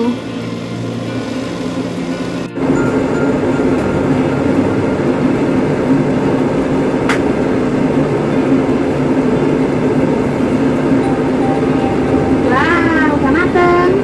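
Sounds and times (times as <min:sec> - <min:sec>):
kitchen fan humming: 0:00.0 - 0:14.0.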